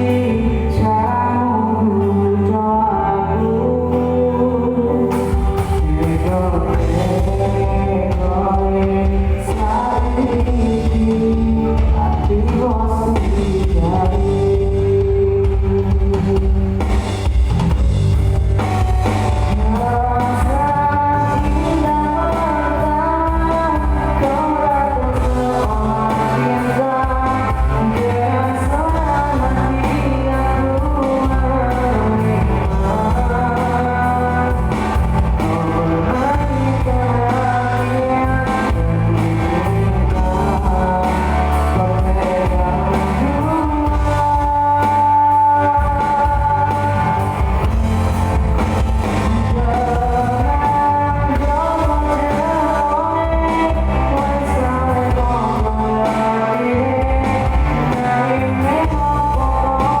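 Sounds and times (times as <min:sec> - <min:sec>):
person singing: 0:00.0 - 0:17.8, 0:18.5 - 1:00.0
rock band music: 0:00.0 - 1:00.0
steady bass: 0:00.0 - 1:00.0.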